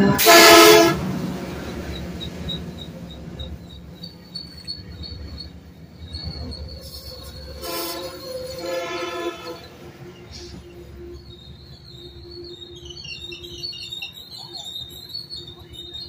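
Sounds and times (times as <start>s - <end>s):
high wheel squeal: 0.0s - 16.0s
train cars rumbling on rails: 0.0s - 16.0s.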